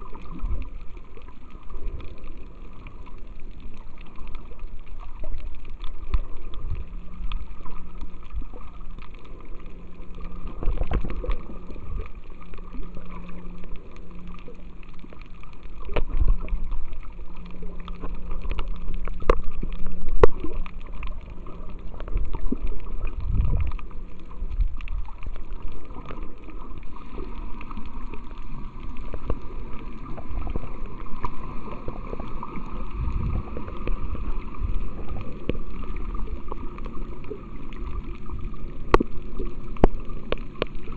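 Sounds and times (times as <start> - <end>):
muffled underwater sloshing: 0.0 - 40.9.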